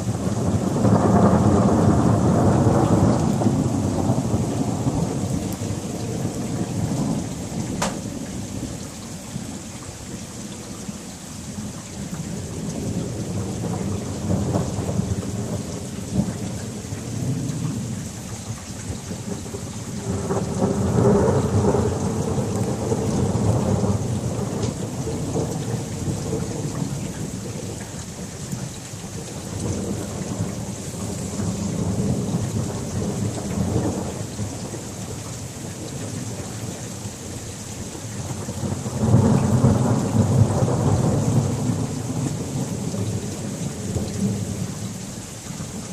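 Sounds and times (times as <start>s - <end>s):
thunder rumbling: 0.0s - 8.8s, 12.4s - 18.0s, 19.2s - 27.7s, 29.2s - 36.8s, 38.2s - 44.8s
steady rain: 0.0s - 45.9s.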